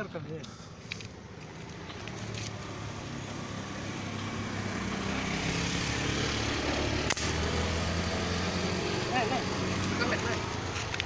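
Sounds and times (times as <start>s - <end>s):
vehicle engine running: 1.2s - 11.0s.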